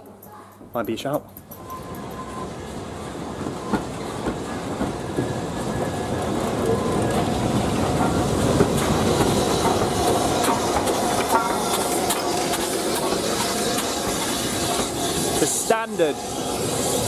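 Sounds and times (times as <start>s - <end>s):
wheels clicking over rail joints: 0.8s - 15.8s
steam train passing: 1.6s - 17.0s.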